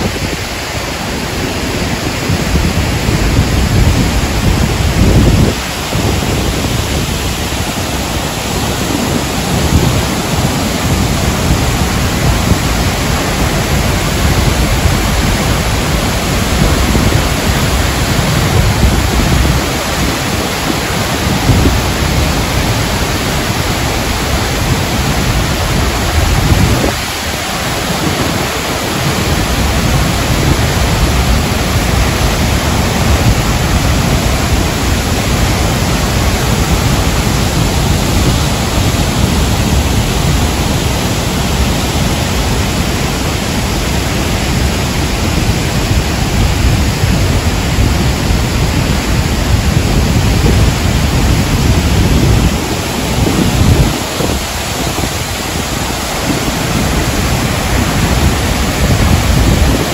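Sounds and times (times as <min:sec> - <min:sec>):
waterfall crashing into pool: 0:00.0 - 0:59.9.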